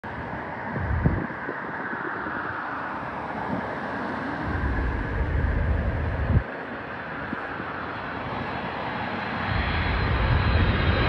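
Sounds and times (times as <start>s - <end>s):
distant jet engine roar: 0.0s - 11.0s
wind buffeting microphone: 0.0s - 11.0s.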